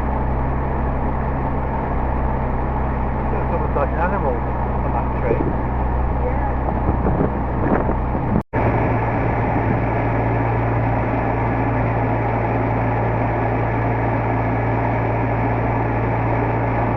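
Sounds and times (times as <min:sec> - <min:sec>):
car engine running: 0:00.0 - 0:16.9.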